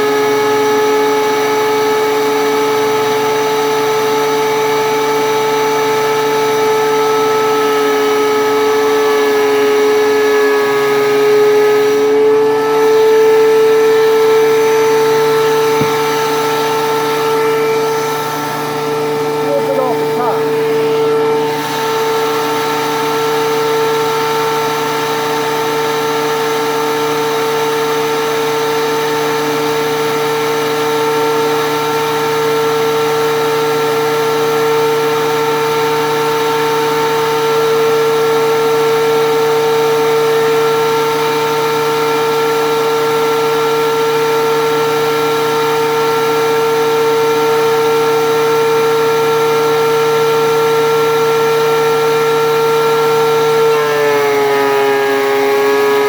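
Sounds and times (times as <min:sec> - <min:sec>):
thickness planer whining: 0:00.0 - 0:56.0.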